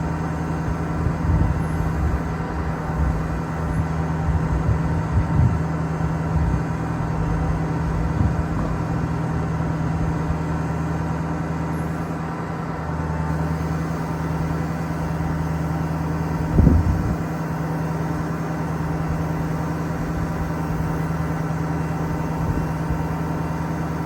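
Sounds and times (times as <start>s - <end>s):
diesel truck engine running: 0.0s - 24.0s
hydraulic pump hum: 0.0s - 24.0s.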